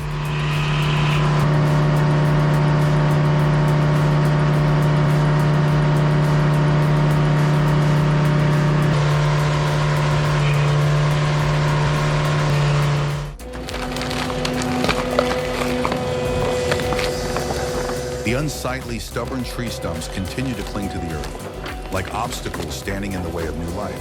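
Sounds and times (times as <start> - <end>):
sawmill motor running: 0.0 - 24.0.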